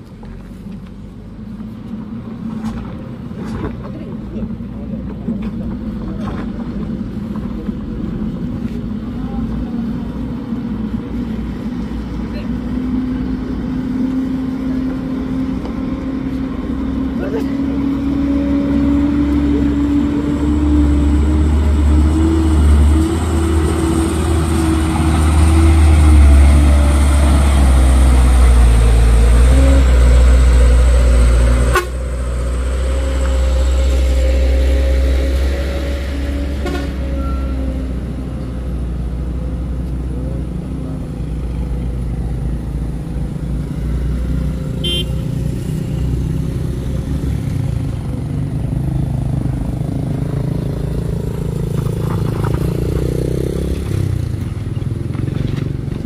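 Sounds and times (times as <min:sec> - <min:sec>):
dump truck engines labouring: 0:00.0 - 0:56.0
lighter traffic: 0:00.0 - 0:56.0.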